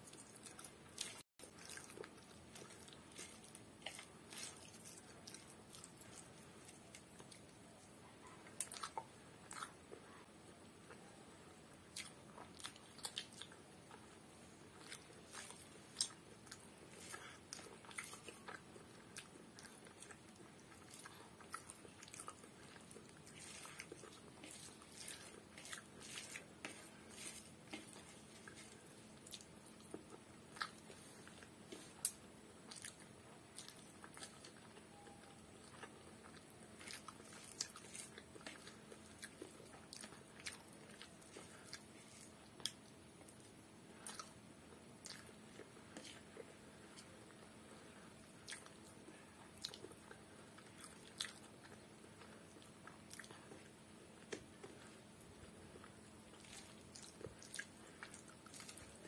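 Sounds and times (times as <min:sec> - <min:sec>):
person chewing food: 0:00.0 - 0:10.0, 0:10.8 - 0:59.0.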